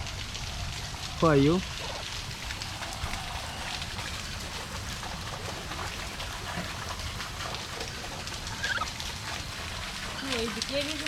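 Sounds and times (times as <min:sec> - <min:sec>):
falling water hissing: 0:00.0 - 0:11.0
water drops ticking: 0:00.0 - 0:11.0.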